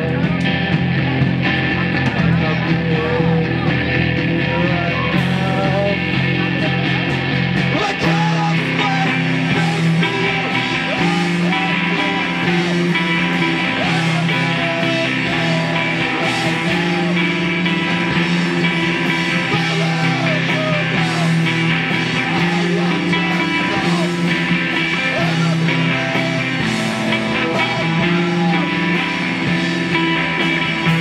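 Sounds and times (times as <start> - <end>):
rock band playing live: 0.0 - 31.0.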